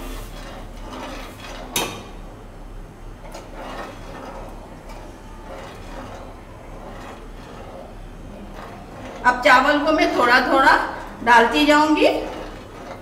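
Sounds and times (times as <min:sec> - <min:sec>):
spoon stirring milk in pan: 0:00.0 - 0:02.3, 0:03.1 - 0:13.0.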